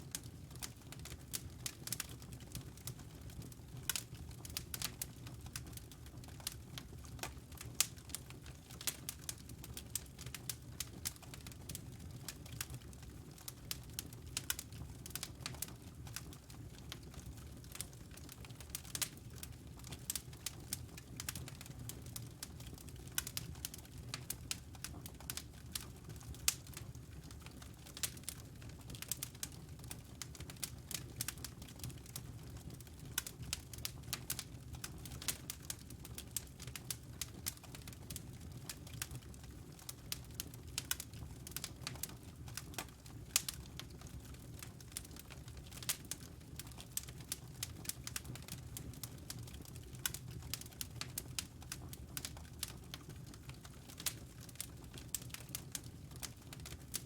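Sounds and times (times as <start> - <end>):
fire crackling and popping: 0.1 - 57.0
low rumble of flames: 0.1 - 57.0.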